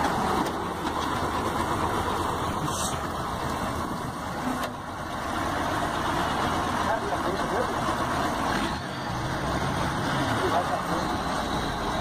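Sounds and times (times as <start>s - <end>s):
wheel loader diesel engine running: 0.0s - 12.0s.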